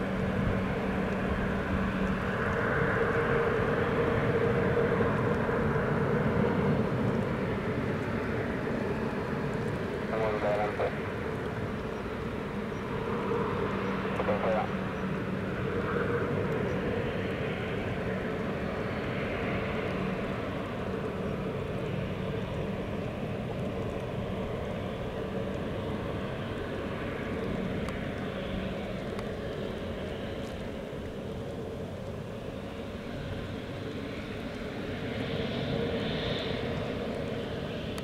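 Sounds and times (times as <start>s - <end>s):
jet engines humming with whine: 0.0s - 38.0s.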